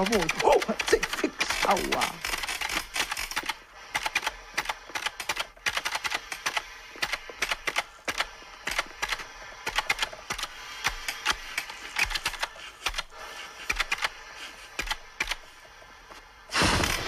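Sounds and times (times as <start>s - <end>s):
rapid mechanical clicking and clattering: 0.0s - 17.0s.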